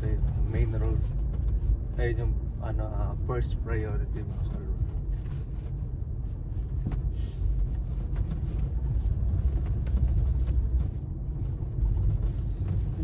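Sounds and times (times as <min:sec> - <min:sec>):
car engine rumble: 0:00.0 - 0:13.0
tyres on road: 0:00.0 - 0:13.0.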